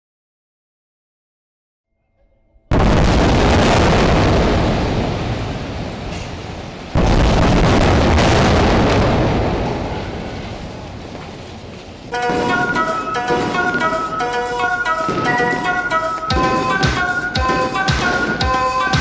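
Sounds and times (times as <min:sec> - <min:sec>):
heavy explosions rumbling: 0:02.7 - 0:19.0.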